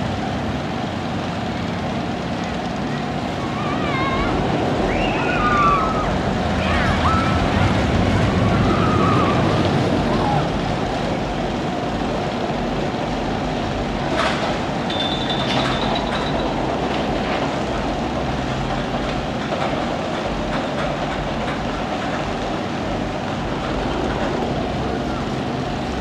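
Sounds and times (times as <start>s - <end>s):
roller coaster rumbling on track: 0.0s - 26.0s
roller coaster squeal: 2.5s - 12.1s, 13.4s - 26.0s.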